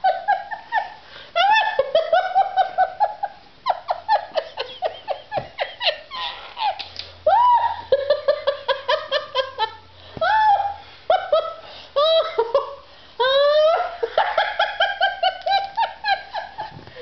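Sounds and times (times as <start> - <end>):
woman laughing hard: 0.0 - 17.0.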